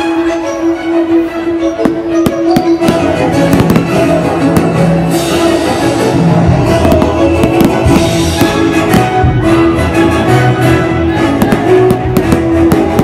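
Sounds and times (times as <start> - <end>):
loud orchestral music: 0.0 - 13.0
fireworks bursting: 1.8 - 13.0.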